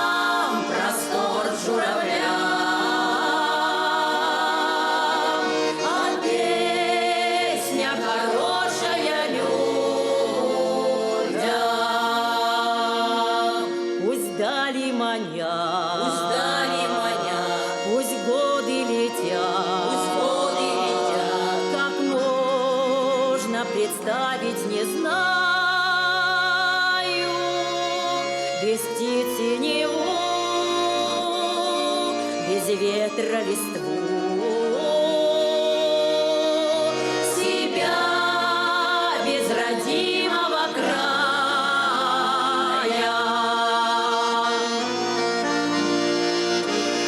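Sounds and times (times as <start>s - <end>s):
folk ensemble singing: 0.0s - 47.0s.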